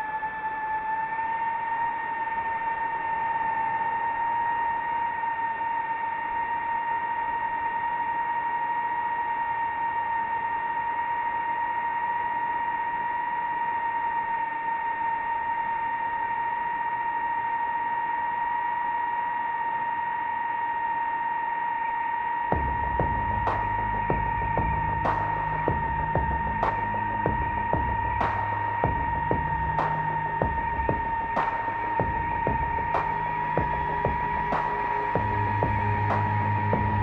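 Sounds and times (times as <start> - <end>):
drone propellers whining: 0.0 - 37.0.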